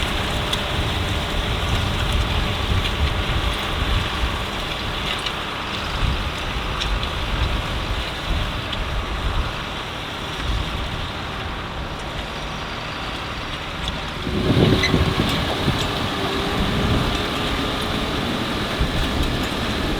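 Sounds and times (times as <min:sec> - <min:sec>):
tractor engine rumbling: 0:00.0 - 0:19.9.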